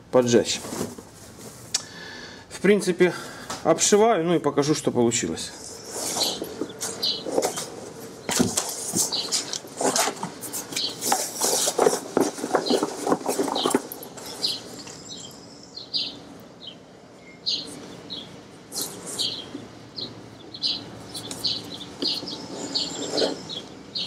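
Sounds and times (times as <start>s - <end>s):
small birds chirping: 4.6s - 24.0s.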